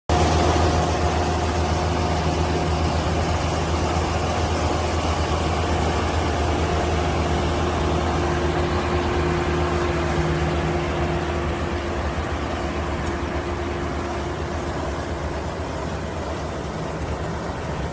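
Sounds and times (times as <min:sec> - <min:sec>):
combine harvester engine humming: 0:00.1 - 0:17.9.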